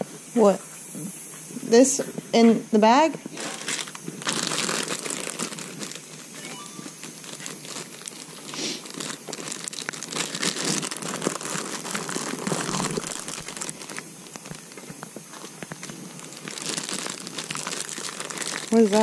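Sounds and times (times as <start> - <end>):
plastic bag crinkling: 3.3 - 19.0.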